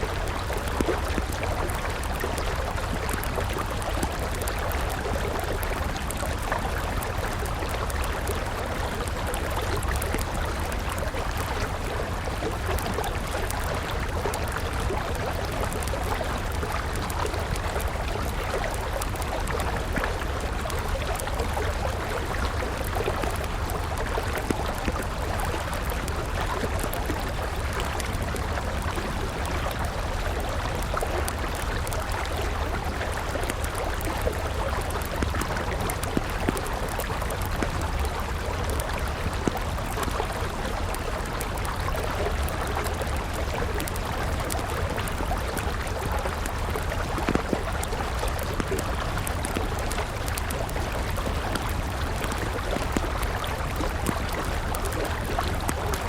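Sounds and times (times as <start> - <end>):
campfire crackling: 0.0 - 56.0
river flowing: 0.0 - 56.0.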